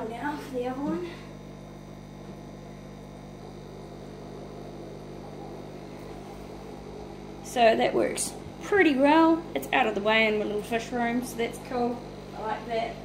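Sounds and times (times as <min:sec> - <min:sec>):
aquarium air pump humming: 0:00.0 - 0:13.0.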